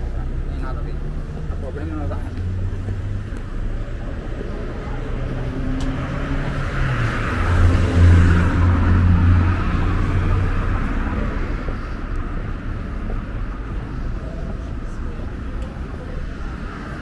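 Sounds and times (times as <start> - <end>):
car passing by: 0.1 - 17.0.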